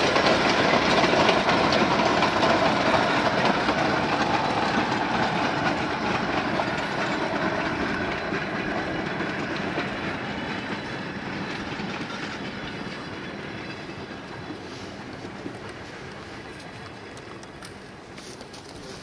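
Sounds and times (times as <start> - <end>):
train wheels clacking over rail joints: 0.0 - 19.0.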